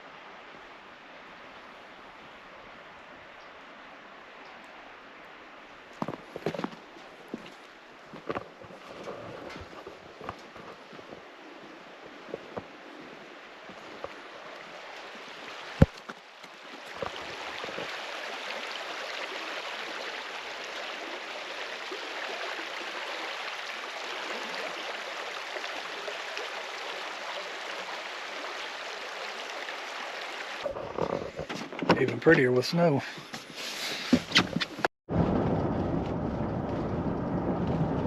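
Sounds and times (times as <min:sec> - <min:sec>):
creek water running: 0:00.0 - 0:34.9.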